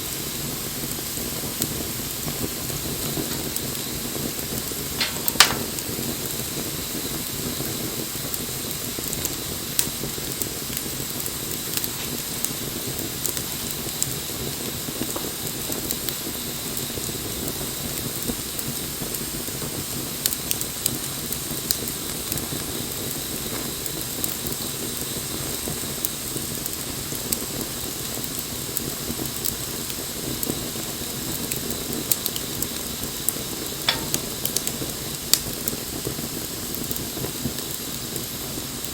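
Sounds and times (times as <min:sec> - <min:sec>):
bonfire hissing: 0:00.0 - 0:38.9
fire crackling and popping: 0:00.0 - 0:38.9.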